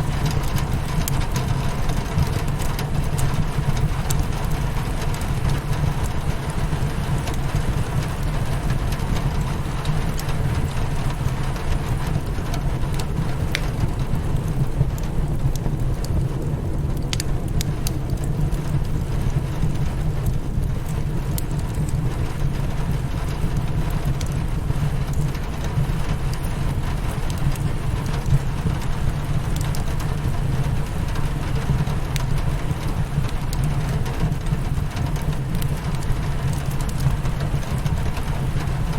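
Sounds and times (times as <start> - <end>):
rain beating against a window: 0.0 - 38.9
wood fire popping: 0.0 - 38.9.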